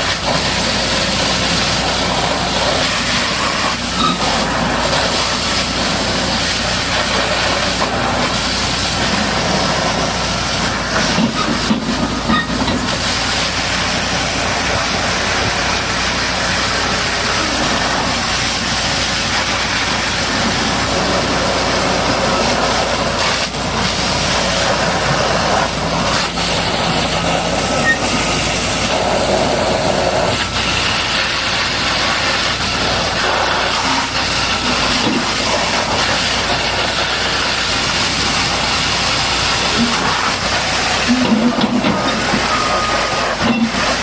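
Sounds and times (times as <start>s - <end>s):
high-pressure water jet spraying: 0.0s - 44.0s.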